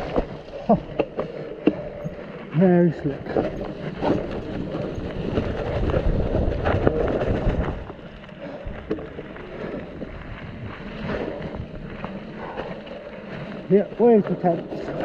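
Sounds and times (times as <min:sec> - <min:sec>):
bike rattling and knocking: 0:00.0 - 0:15.0
wind buffeting microphone: 0:00.0 - 0:15.0.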